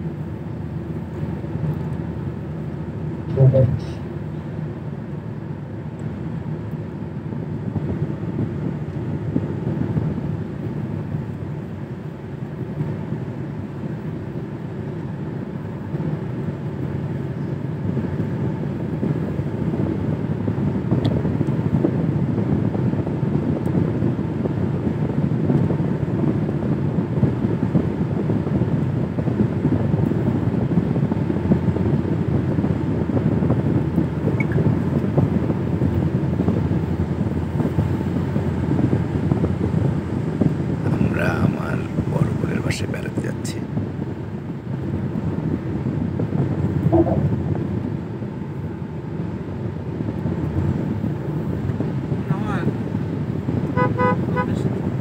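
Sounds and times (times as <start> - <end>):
car road and engine noise: 0.0 - 55.0.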